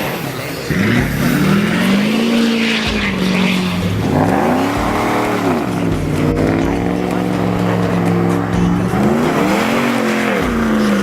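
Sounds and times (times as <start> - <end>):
car engine revving hard: 0.7 - 11.0.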